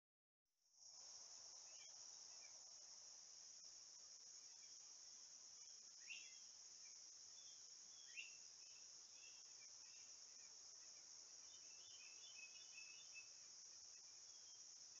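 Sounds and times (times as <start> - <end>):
insect chorus drone: 0.6 - 15.0
bird chirping: 1.4 - 3.0, 4.1 - 15.0.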